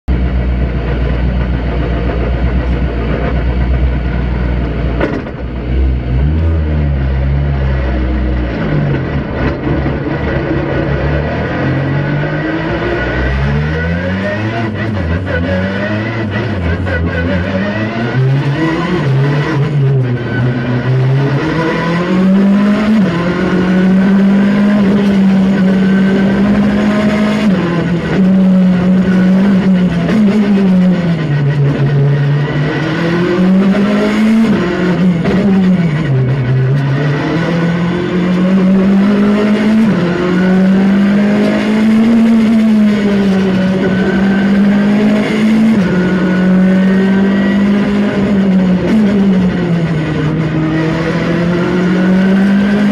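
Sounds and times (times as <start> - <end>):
rally car engine revving: 0.1 - 52.9.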